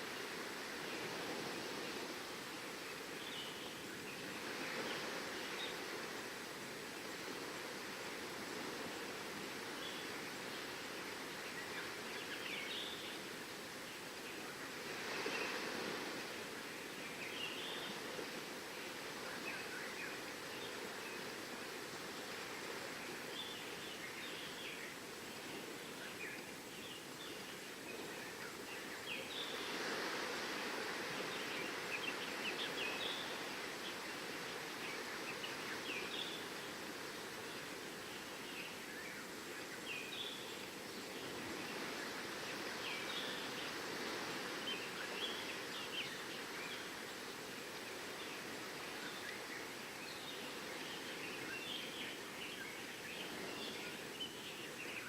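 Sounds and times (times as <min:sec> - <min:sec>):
surf rushing on shore: 0:00.0 - 0:55.0.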